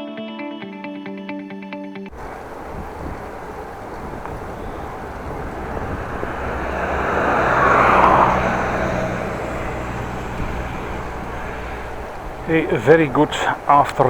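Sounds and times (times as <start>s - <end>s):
background traffic noise: 2.1s - 14.0s
vehicle passing: 2.1s - 14.0s.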